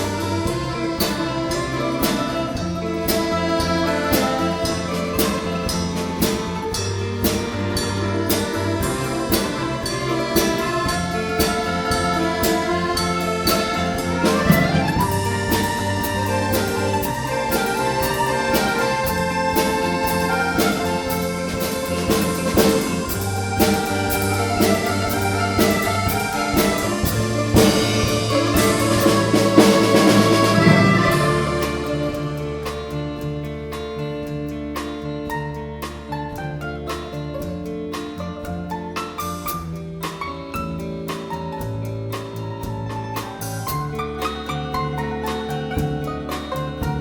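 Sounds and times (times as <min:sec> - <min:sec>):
folk ensemble playing lively tune: 0:00.0 - 0:47.0.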